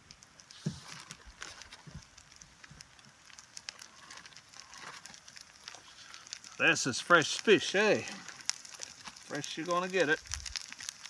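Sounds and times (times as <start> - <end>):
fish sizzling in butter: 0.0 - 11.0
small crackles and pops: 0.0 - 11.0.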